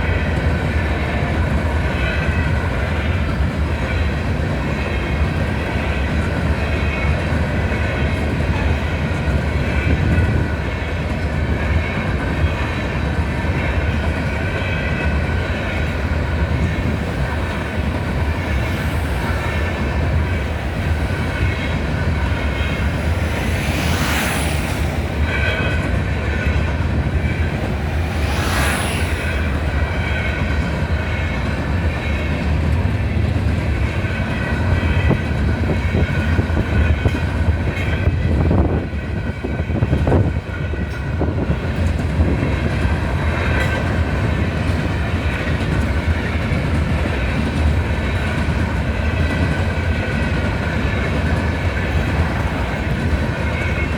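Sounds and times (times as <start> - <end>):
train rumbling and rattling: 0.0 - 53.9.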